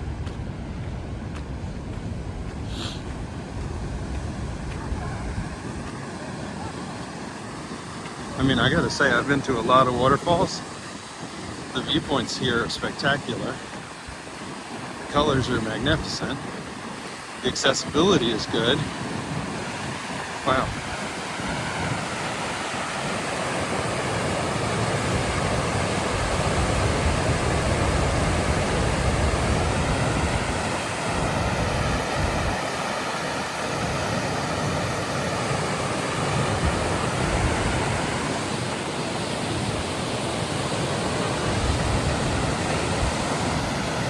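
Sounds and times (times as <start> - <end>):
wind buffeting microphone: 0.0 - 44.0
waterfall roaring: 2.6 - 44.0.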